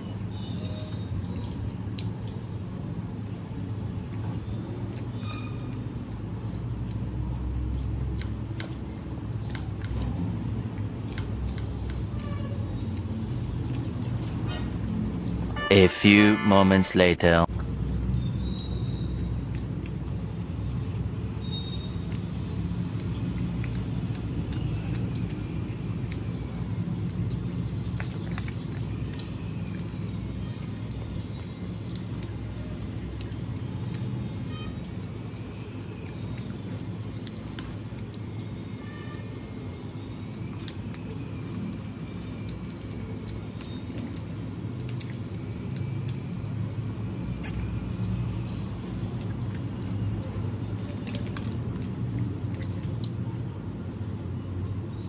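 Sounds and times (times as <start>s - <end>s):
chewing with wet mouth clicks: 0.0s - 15.5s, 17.5s - 54.8s.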